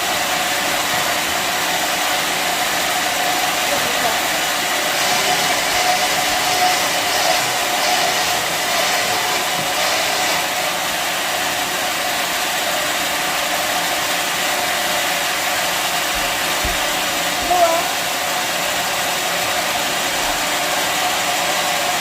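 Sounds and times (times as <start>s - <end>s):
band sawmill whirring: 0.0s - 22.0s.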